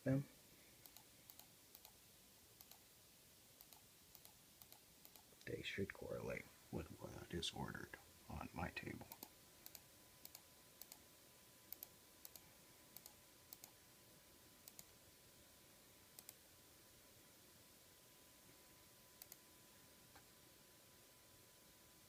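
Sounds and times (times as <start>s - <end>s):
faint steady tone: 0.0s - 22.0s.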